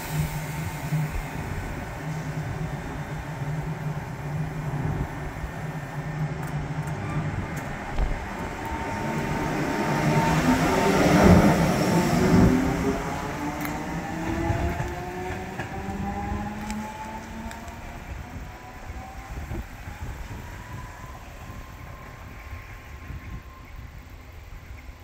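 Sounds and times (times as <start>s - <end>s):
locomotive passing hum: 0.0s - 25.0s.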